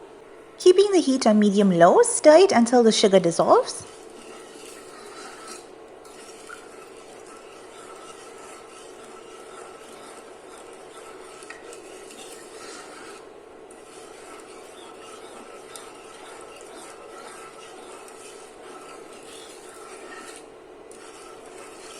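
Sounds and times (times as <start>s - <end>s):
sugar scraping pot bottom: 3.5s - 21.9s.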